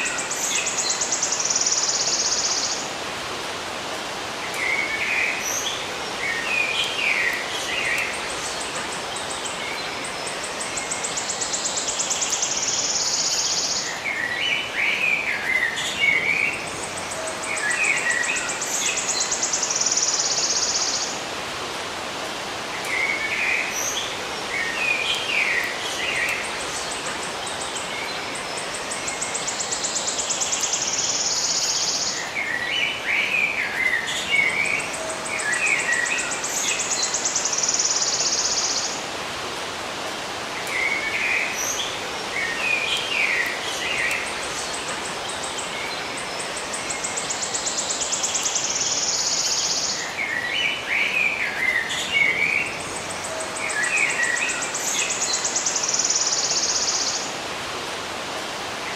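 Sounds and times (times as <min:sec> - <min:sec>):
natural ambience hiss: 0:00.0 - 0:58.9
small birds chirping: 0:04.5 - 0:21.2, 0:22.8 - 0:39.1, 0:40.6 - 0:57.4.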